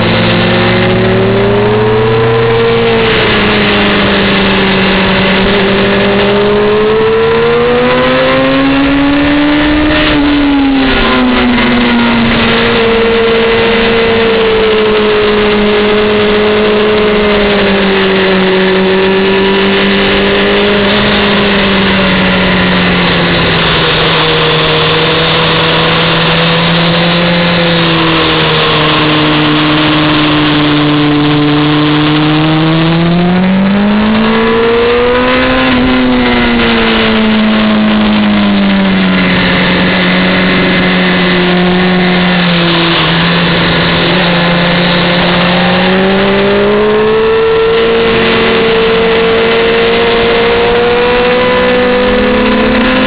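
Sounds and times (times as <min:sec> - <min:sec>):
motorcycle engine revving: 0:00.0 - 0:53.0
wind rush: 0:00.0 - 0:53.0.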